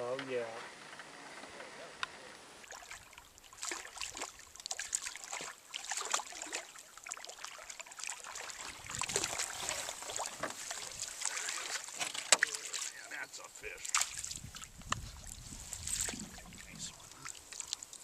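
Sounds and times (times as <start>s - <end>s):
water splashing beside canoe: 2.6s - 18.0s.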